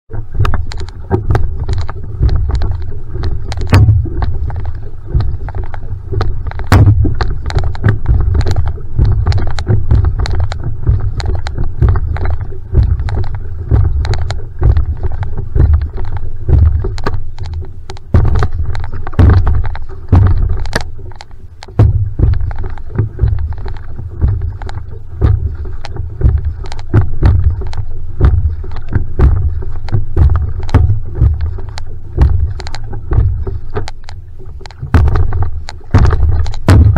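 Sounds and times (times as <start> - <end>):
heavy low rumble: 0.1 - 36.9
paddle pulling through water: 0.1 - 36.9
small splashy clicks: 0.1 - 36.9
water running along hull: 0.1 - 36.9.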